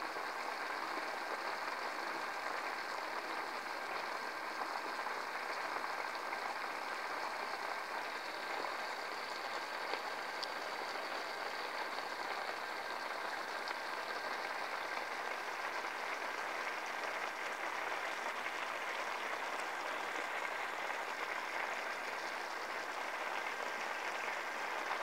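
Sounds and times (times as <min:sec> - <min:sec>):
stock boiling hard in a pan: 0:00.0 - 0:25.0.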